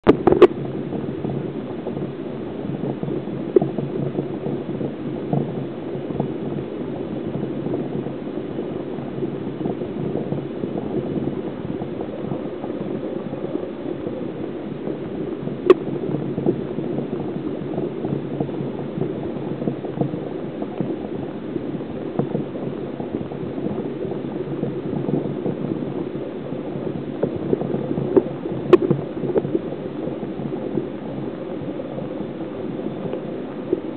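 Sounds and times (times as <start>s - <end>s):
small crackles: 0.0s - 33.9s
water gurgling in a tank: 0.1s - 33.9s.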